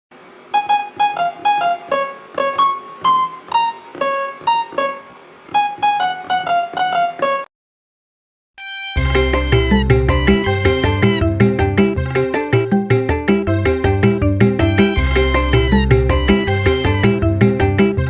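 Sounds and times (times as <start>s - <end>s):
keyboard melody of single notes: 0.5s - 7.5s, 8.6s - 18.0s
music: 0.5s - 7.5s, 8.6s - 18.0s.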